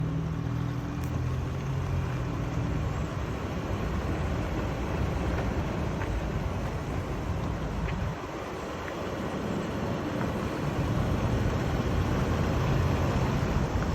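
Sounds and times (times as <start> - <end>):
car engine rumbling: 0.0 - 13.9.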